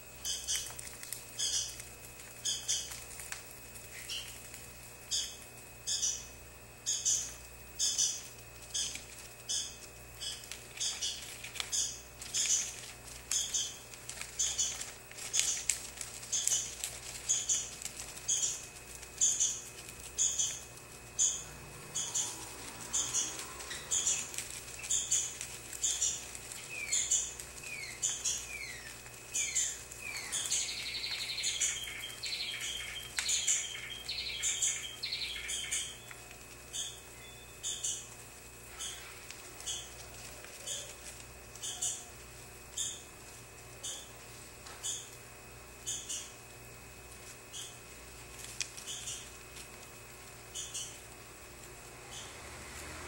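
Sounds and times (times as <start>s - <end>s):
small bird chirping: 0.2s - 43.2s, 43.8s - 46.5s, 47.5s - 47.9s, 48.7s - 49.5s, 50.4s - 51.1s, 52.0s - 52.6s.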